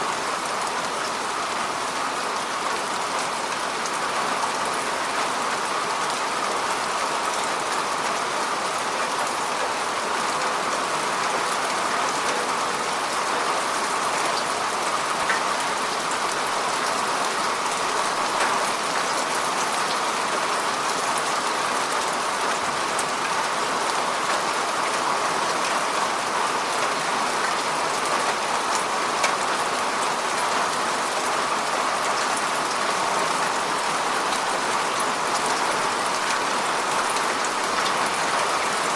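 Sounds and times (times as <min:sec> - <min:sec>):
rain falling on water: 0:00.0 - 0:38.9.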